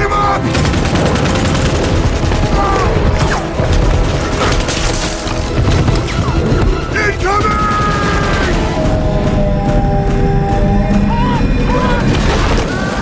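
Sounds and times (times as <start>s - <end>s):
film music: 0.0s - 13.0s.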